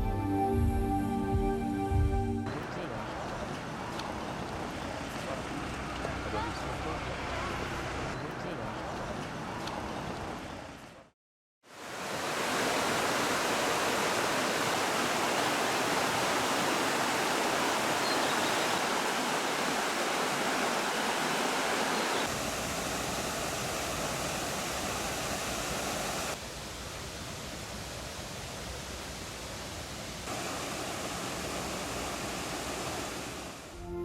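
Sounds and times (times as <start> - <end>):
rushing water: 2.5 - 8.1, 11.6 - 33.8.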